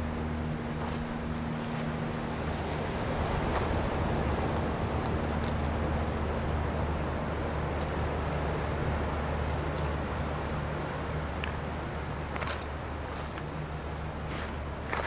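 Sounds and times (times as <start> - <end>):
low steady hum: 0.0 - 15.0
surf on a cobble beach: 0.0 - 15.0.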